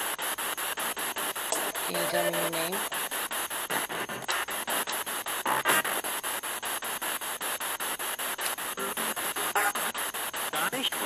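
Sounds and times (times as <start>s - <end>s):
choppy radio static hiss: 0.0s - 11.0s.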